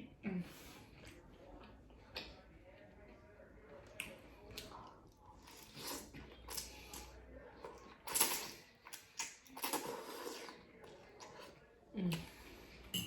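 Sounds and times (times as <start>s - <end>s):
chewing: 0.8s - 12.9s.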